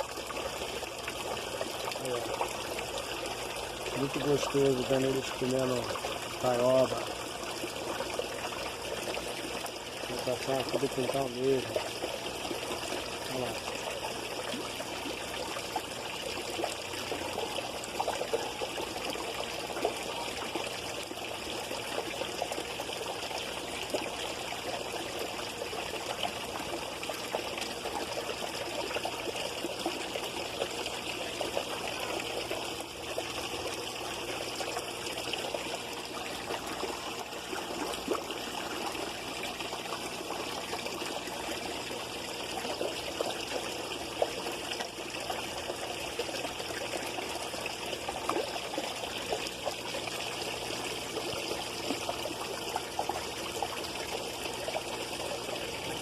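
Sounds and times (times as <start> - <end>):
small splashes: 0.0 - 56.0
water trickling in pond: 0.0 - 56.0.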